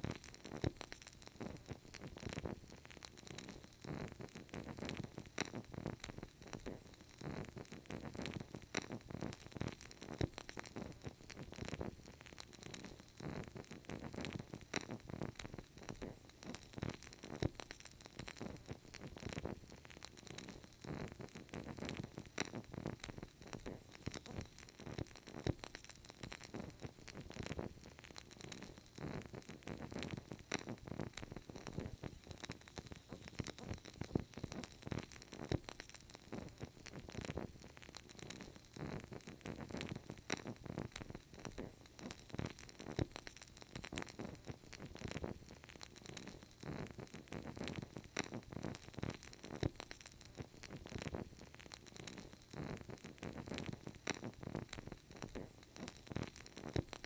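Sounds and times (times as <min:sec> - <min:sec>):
candle crackling: 0:00.0 - 0:57.0
soft hiss: 0:00.0 - 0:57.0.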